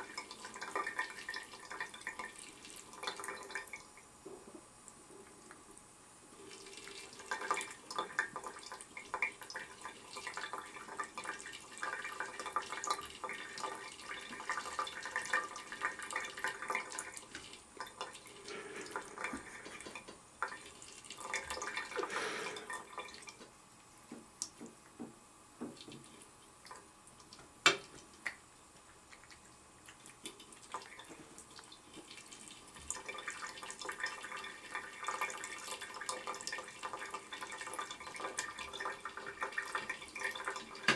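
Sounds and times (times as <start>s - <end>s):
tap water running into sink: 0.0s - 3.9s, 6.4s - 23.5s, 24.1s - 28.4s, 29.1s - 40.9s
water dripping: 0.0s - 4.1s, 6.4s - 40.9s.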